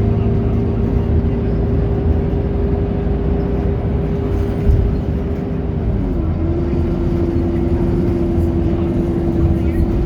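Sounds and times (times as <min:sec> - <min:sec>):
bus diesel engine humming: 0:00.0 - 0:10.0.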